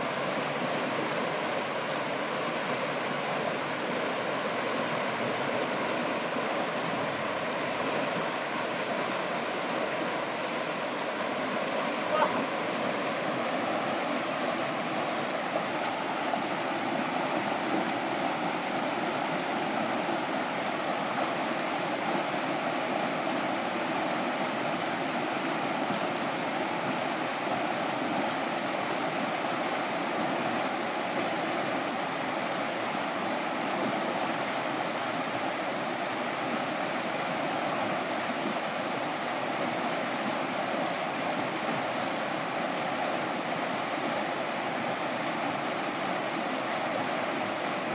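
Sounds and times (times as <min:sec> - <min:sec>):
whitewater rushing over weir: 0:00.0 - 0:47.9.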